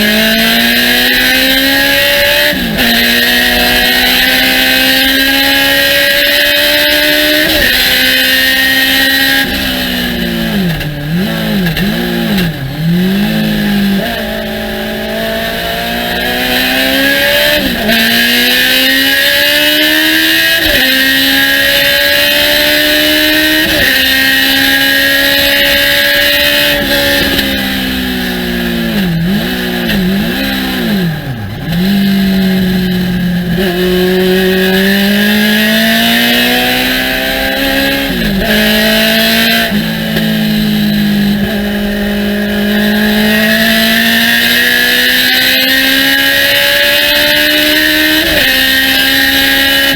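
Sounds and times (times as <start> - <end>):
race car engine revving: 0.0 - 49.9
wind and tyre noise: 0.0 - 49.9.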